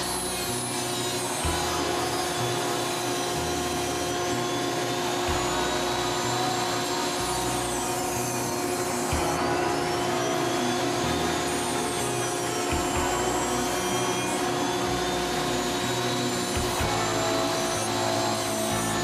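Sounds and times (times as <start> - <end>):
rotary tool grinding wood: 0.0 - 19.0.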